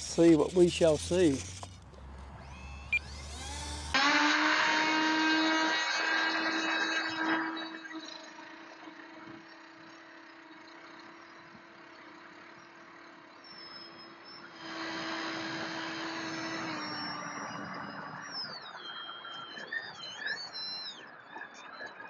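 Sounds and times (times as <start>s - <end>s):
high whines sliding: 0.0s - 10.3s, 13.5s - 21.0s
electric motors and propellers humming: 0.0s - 22.0s.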